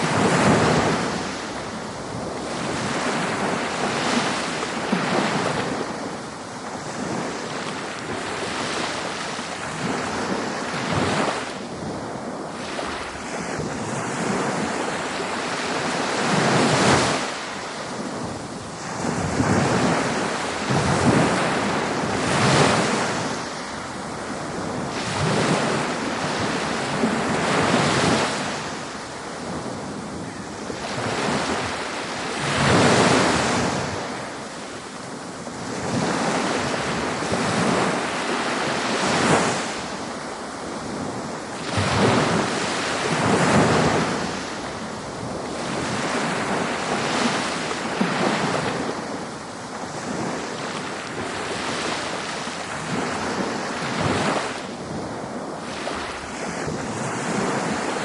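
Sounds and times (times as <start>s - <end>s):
ocean waves breaking on beach: 0.0s - 58.0s
wind noise on microphone: 0.0s - 58.0s.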